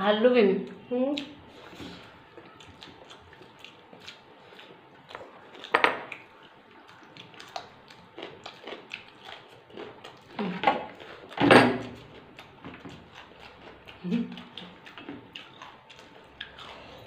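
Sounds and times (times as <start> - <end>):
mouth smacks and chewing: 0.7 - 17.0.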